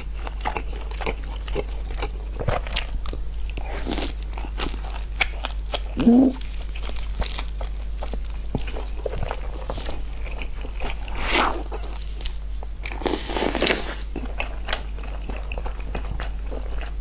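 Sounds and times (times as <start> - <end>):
chewing with crunching clicks: 0.0 - 17.0.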